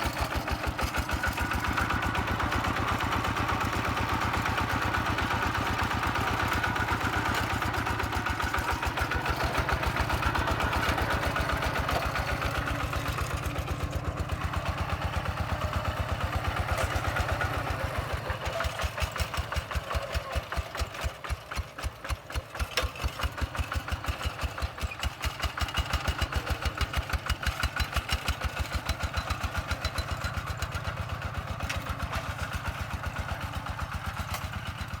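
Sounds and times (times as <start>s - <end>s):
bulldozer diesel engine: 0.0s - 35.0s.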